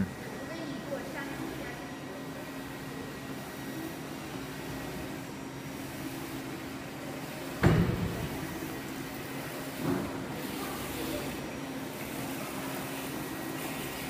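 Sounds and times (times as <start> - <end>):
printer humming: 0.0 - 14.0.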